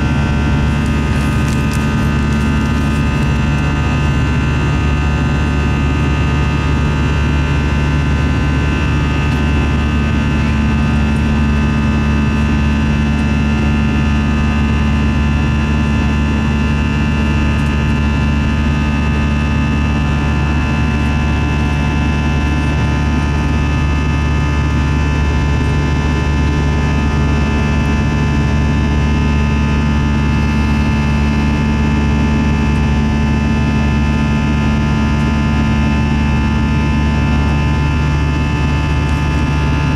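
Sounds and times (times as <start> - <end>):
jet engine drone in cabin: 0.0 - 39.9
low hum: 0.0 - 39.9.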